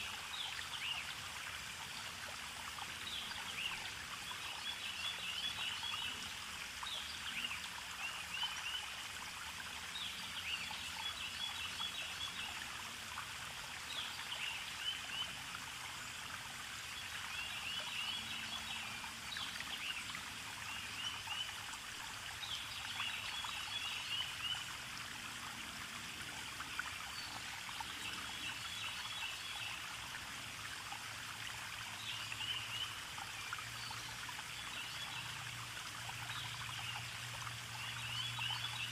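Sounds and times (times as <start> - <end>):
water flowing: 0.0 - 38.9.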